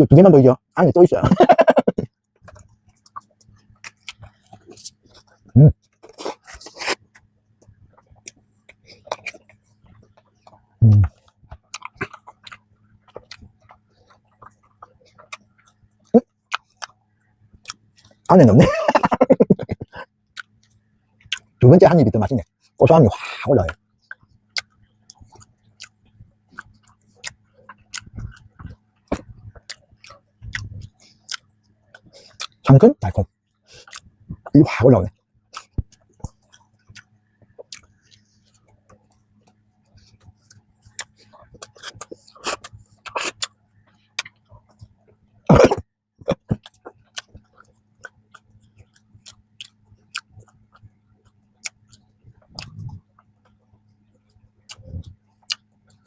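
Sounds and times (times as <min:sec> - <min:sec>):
faint low hum: 0:00.0 - 0:56.0
wet mouth clicks chewing: 0:01.6 - 0:17.0, 0:20.4 - 0:21.5, 0:23.7 - 0:32.6, 0:33.8 - 0:34.5, 0:35.5 - 0:53.6, 0:54.2 - 0:56.0.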